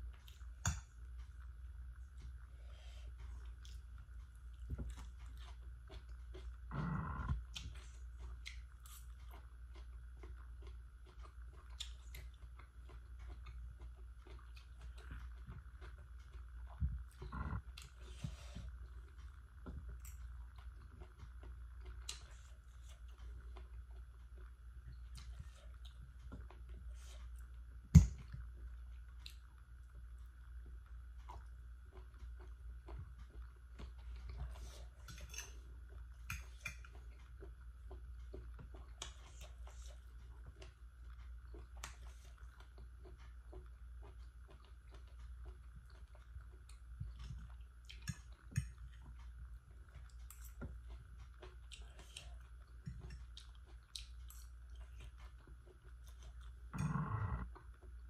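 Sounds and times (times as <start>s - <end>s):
faint chewing: 0.0s - 58.0s
faint steady hum: 0.0s - 58.0s.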